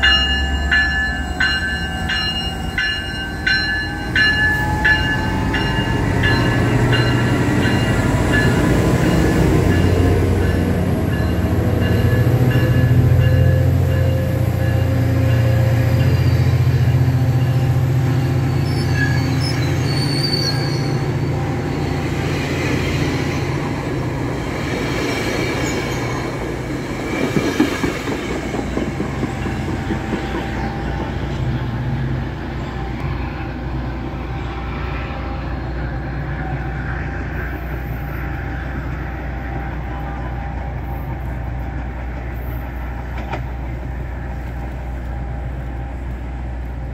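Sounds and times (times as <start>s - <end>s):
train cars rumbling past: 0.0s - 46.9s.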